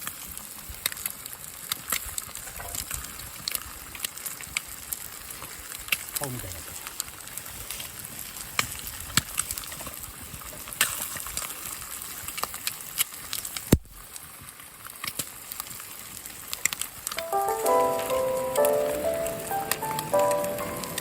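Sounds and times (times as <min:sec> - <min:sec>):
campfire crackling and popping: 0:00.1 - 0:21.0.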